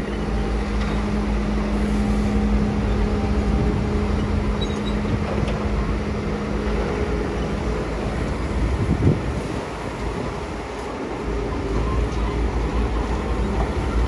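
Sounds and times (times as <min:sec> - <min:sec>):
excavator diesel engine rumbling: 0:00.0 - 0:14.0
steady machine hum: 0:00.0 - 0:14.0.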